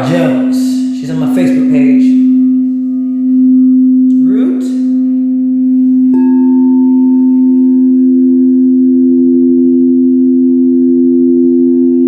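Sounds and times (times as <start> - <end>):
low singing bowl tone: 0.0 - 12.0
singing bowl struck: 0.0 - 12.0.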